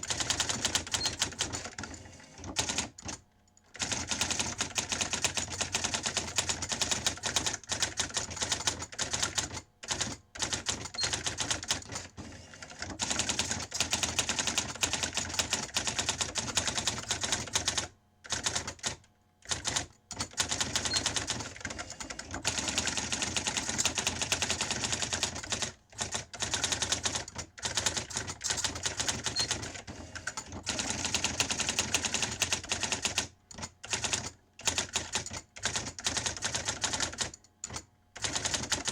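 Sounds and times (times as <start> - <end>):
typewriter typing: 0.0 - 38.9.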